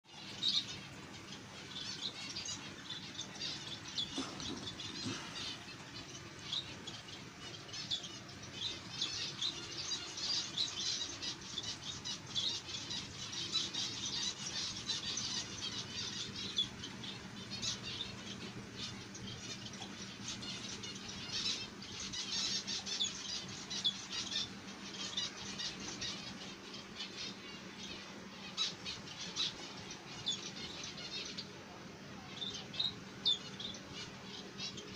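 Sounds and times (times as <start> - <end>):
finches chirping: 0.1 - 34.9.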